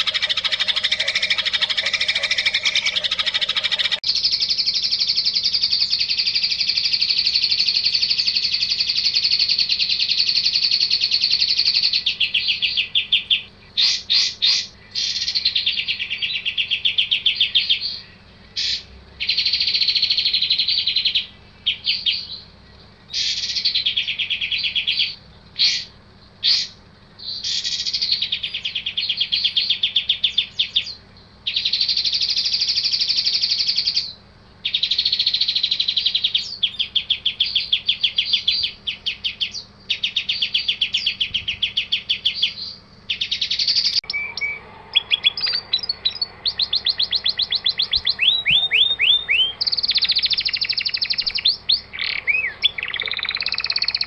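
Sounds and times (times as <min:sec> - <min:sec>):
songbird trills and chirps: 0:00.0 - 0:54.0.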